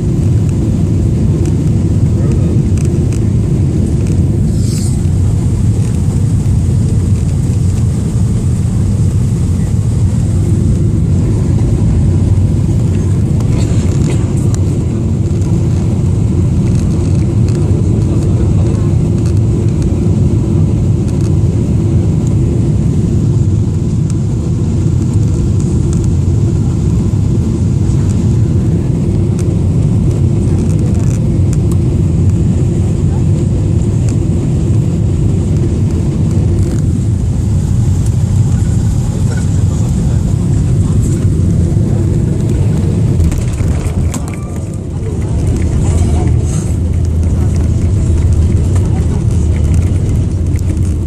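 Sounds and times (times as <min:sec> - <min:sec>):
aircraft cabin engine roar: 0:00.0 - 0:51.0.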